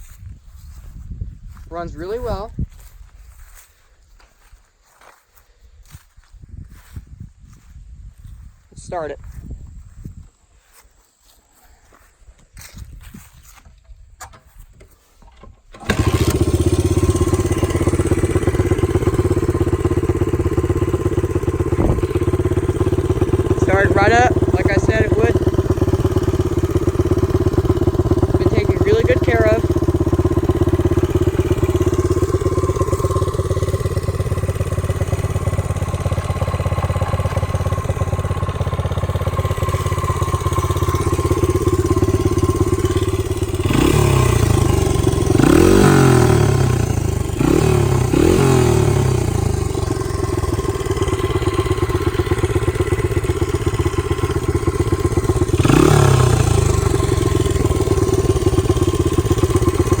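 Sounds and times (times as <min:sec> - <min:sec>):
motorcycle engine idling and revving: 0:00.0 - 1:00.0.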